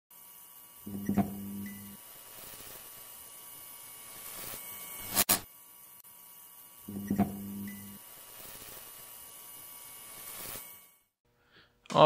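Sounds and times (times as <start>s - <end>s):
electric neon buzz: 0.1s - 11.2s.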